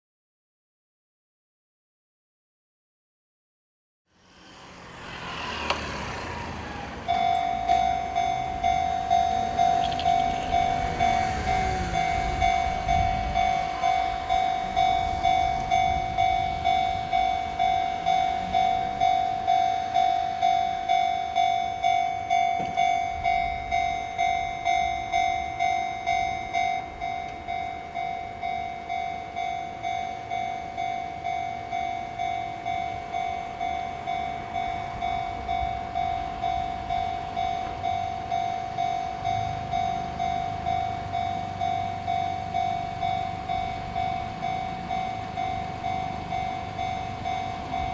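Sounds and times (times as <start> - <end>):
level-crossing warning bell: 5.6 - 47.9.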